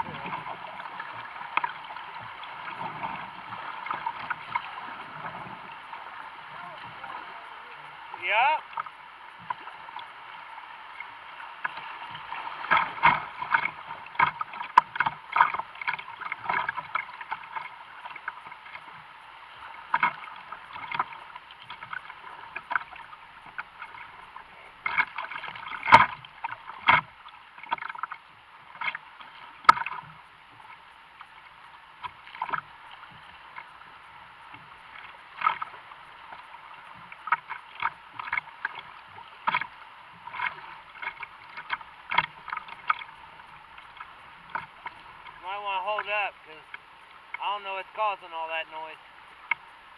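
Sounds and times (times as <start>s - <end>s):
paddle splashes: 0.0s - 49.9s
rushing water: 0.0s - 49.9s.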